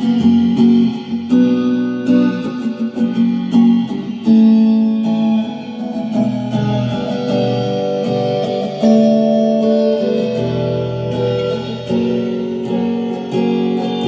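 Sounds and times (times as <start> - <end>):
electric guitar solo: 0.0 - 14.0.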